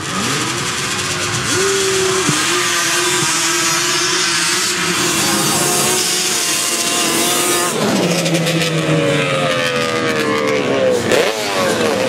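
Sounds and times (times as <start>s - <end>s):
racing quad engine revving: 0.0s - 12.0s.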